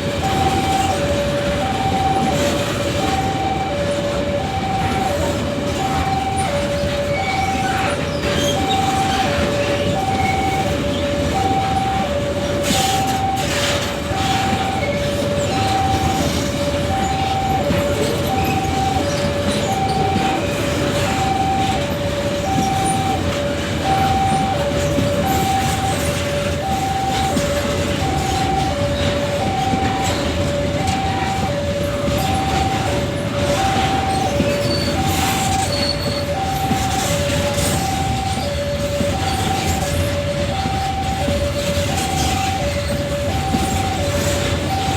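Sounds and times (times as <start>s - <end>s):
level-crossing two-tone alarm: 0.0s - 44.9s
train wagons rumbling past: 0.0s - 44.9s.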